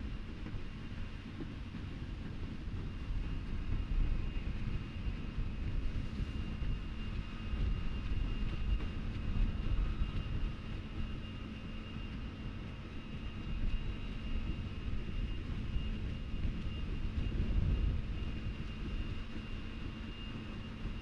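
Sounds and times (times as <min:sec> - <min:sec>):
high steady whine: 0:00.0 - 0:21.0
machine drone with low rumble: 0:00.0 - 0:21.0.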